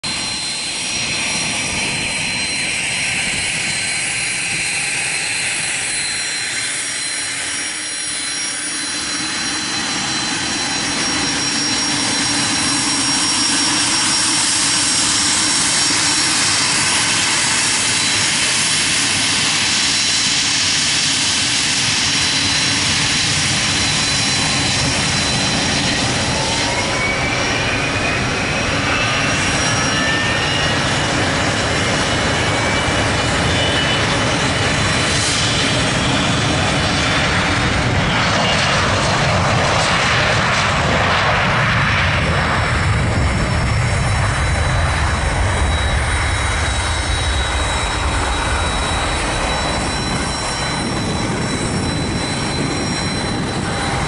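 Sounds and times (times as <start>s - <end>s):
jet engine spooling up: 0.0s - 54.0s
jet engines whining: 0.0s - 54.0s.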